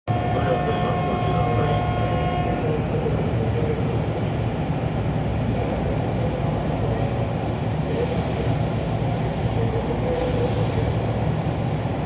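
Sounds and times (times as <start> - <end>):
train car hum and rumble: 0.1 - 12.0.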